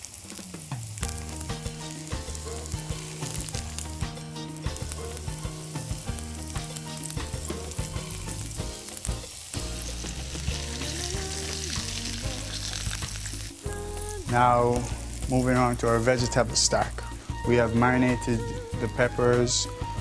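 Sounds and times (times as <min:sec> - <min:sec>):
sharp oil crackles: 0:00.0 - 0:17.5
tofu sizzling in hot oil: 0:00.0 - 0:17.5.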